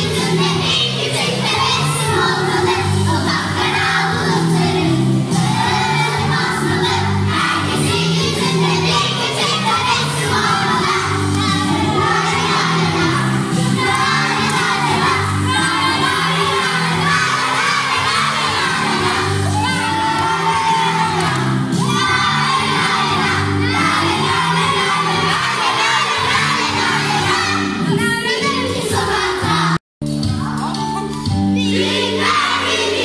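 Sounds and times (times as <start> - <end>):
children shouting and singing: 0.0 - 29.8, 31.6 - 33.0
loud music with bass: 0.0 - 33.0.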